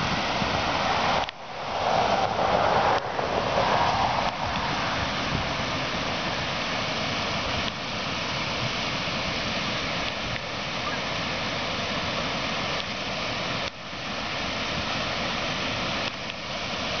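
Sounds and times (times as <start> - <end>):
water rushing over spillway: 0.0 - 17.0.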